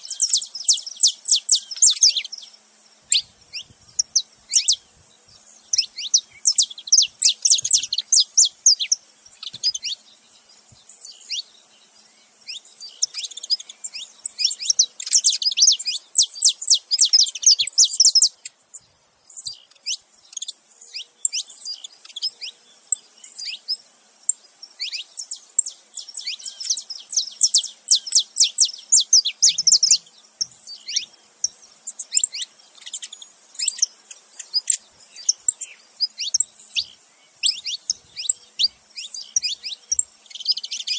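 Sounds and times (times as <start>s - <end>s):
finches chirping: 0.0s - 40.9s.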